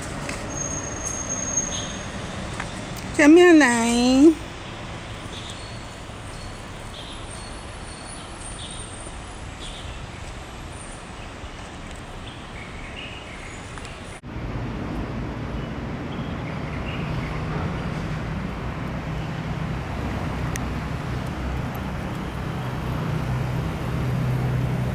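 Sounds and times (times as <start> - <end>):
distant traffic: 0.0 - 24.9.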